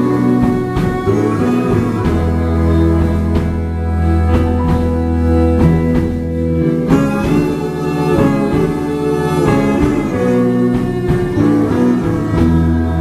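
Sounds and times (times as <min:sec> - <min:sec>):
bass guitar: 0:00.0 - 0:13.0
drums: 0:00.0 - 0:13.0
electric guitars: 0:00.0 - 0:13.0
violin: 0:00.0 - 0:13.0.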